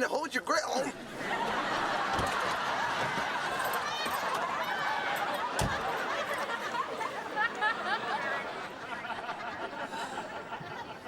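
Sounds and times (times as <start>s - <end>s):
studio audience laughing: 1.0s - 11.0s.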